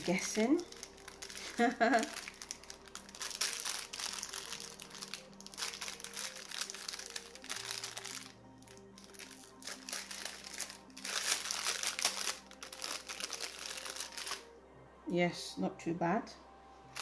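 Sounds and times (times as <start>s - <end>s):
packaging crinkling and rustling: 0.0s - 14.5s
soft background music: 0.0s - 17.0s.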